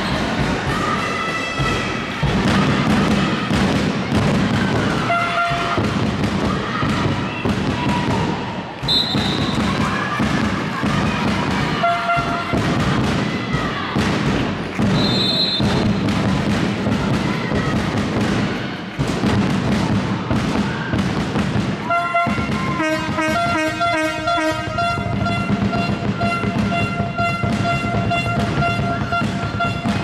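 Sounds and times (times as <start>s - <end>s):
ball bouncing on hall floor: 0.1s - 30.0s.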